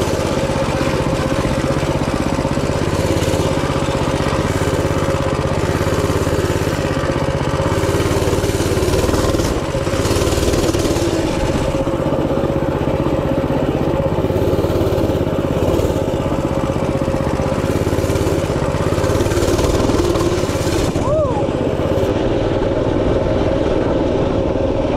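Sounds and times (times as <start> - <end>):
minibike engine running: 0.0 - 24.9.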